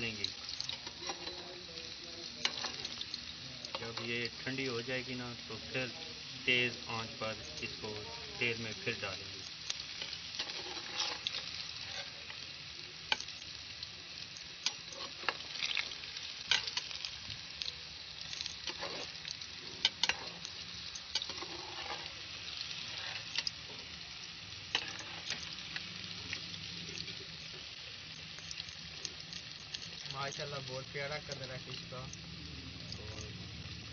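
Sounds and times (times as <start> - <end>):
metal spoon stirring oil: 0.0 - 30.4
fish deep-frying in oil: 0.0 - 33.9.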